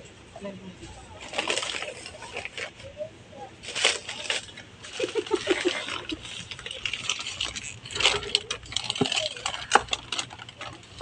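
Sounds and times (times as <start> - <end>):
paper bags rustling: 1.2 - 2.9, 3.6 - 11.0.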